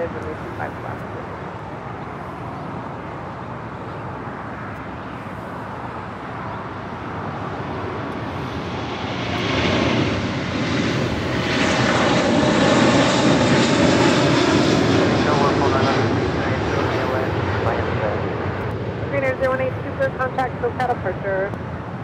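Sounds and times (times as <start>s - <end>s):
faint jet engine whine: 0.0s - 22.0s
jet engines rumbling at takeoff: 0.0s - 22.0s.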